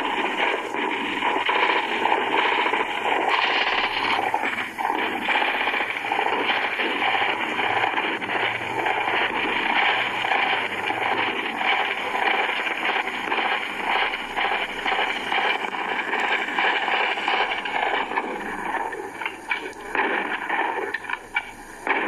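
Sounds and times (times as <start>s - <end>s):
flickering rushing noise: 0.0s - 22.0s.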